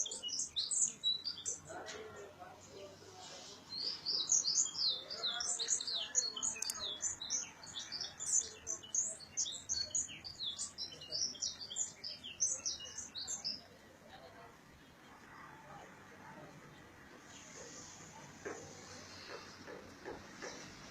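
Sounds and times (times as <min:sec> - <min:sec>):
songbirds chirping and twittering: 0:00.0 - 0:20.9.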